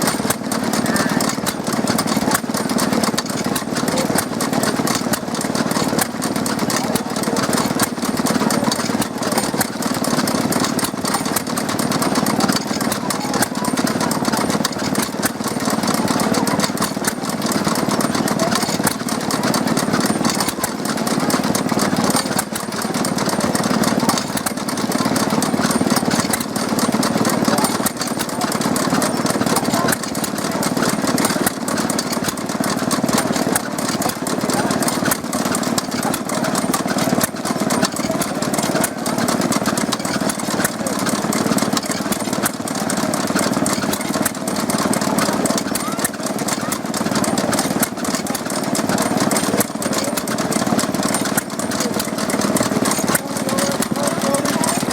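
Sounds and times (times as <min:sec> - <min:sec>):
stationary engines running: 0:00.0 - 0:54.9.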